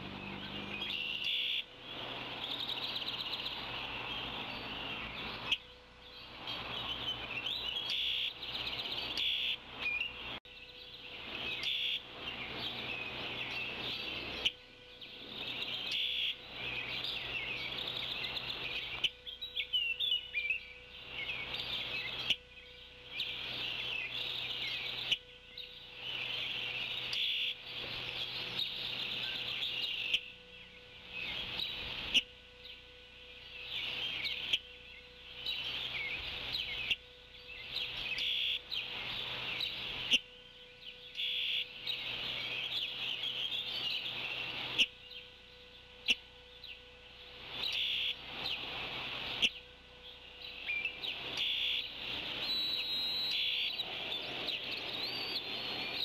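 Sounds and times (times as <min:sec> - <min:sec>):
faint steady hum: 0:00.0 - 0:56.0
small birds twittering: 0:00.0 - 0:56.0.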